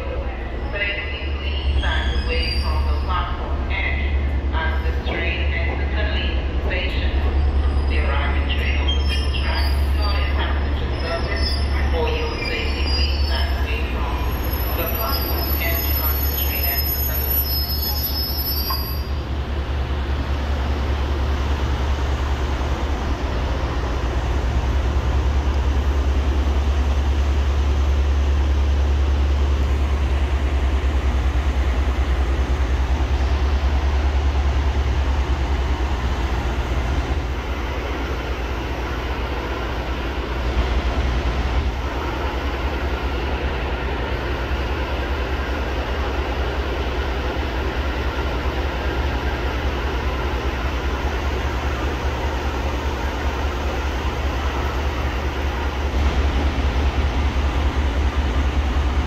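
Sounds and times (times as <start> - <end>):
train machinery low hum: 0.0 - 59.0.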